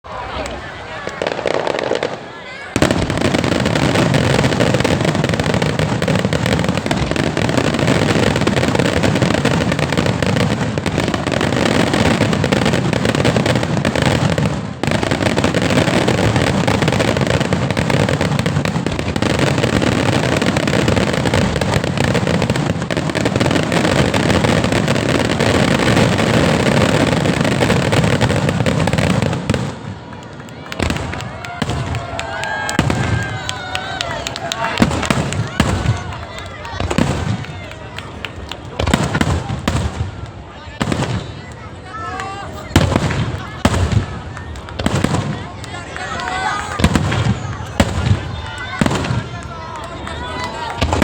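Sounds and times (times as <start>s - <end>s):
fireworks bangs and crackling: 0.1s - 51.0s.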